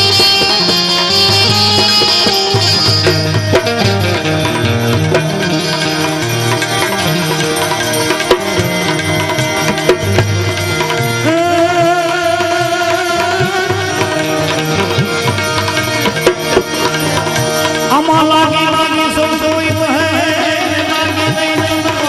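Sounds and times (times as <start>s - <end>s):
tabla rhythm: 0.0s - 22.0s
wavering held melody notes: 0.0s - 22.0s.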